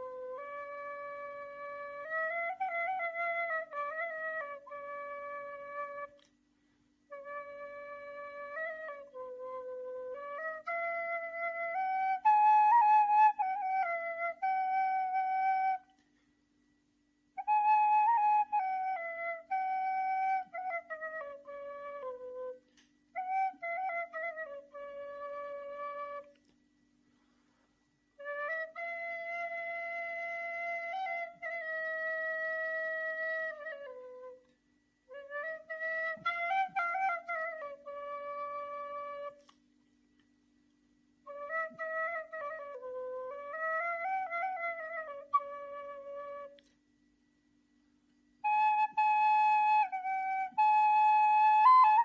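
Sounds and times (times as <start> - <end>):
reed flute slow melody: 0.0 - 40.3, 41.1 - 52.0.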